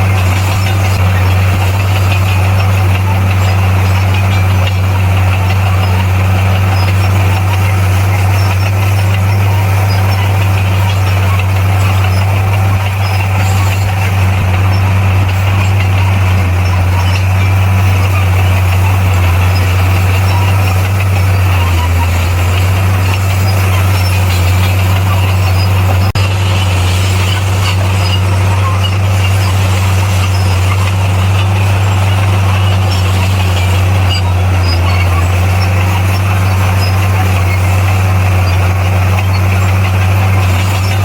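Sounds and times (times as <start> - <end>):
bulldozer diesel engine droning: 0.0 - 41.0.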